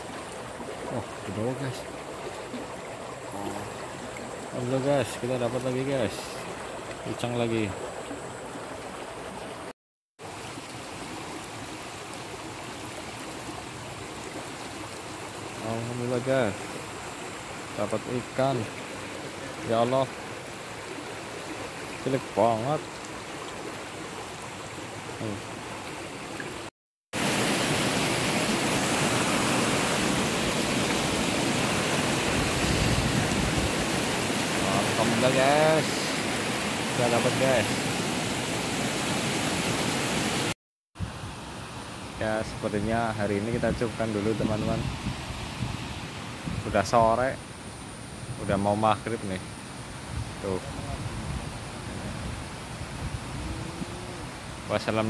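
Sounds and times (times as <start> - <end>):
water rushing in irrigation channel: 0.0 - 55.0.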